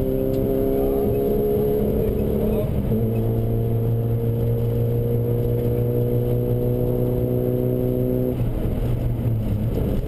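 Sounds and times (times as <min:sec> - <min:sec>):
car engine at steady revs: 0:00.0 - 0:10.0
road noise: 0:00.0 - 0:10.0.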